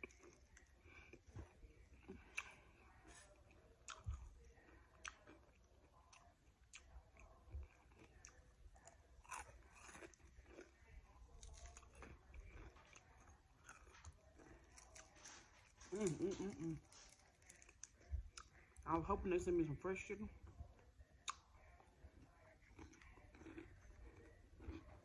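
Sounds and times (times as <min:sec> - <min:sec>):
crunching fried chicken: 0:00.0 - 0:18.9, 0:20.7 - 0:25.0.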